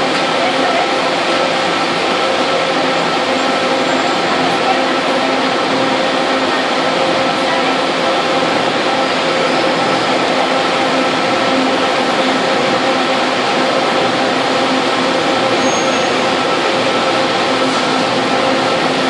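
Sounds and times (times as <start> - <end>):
bus idling hum: 0.0 - 19.0.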